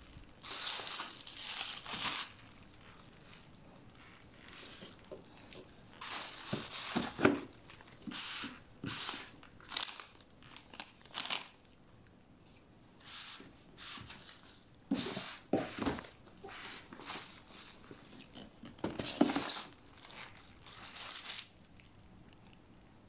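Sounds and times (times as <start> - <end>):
bubble wrap crinkling: 0.0 - 11.8, 13.9 - 22.1.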